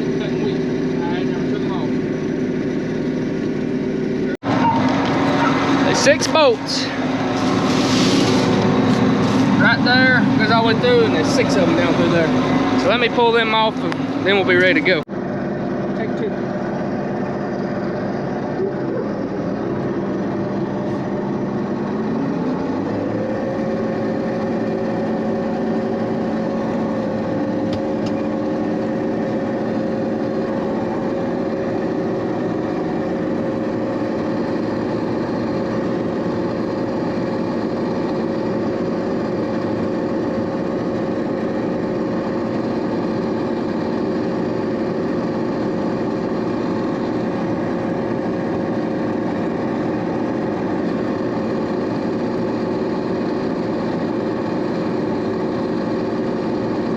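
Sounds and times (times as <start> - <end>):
diesel engine throttling up: 0.0 - 56.9.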